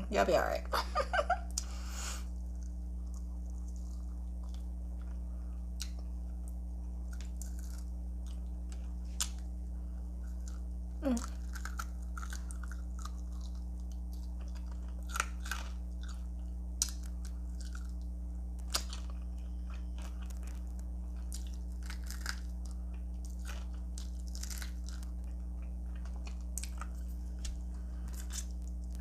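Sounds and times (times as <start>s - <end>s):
low electrical hum: 0.0s - 29.0s
chewing and crunching: 2.3s - 29.0s.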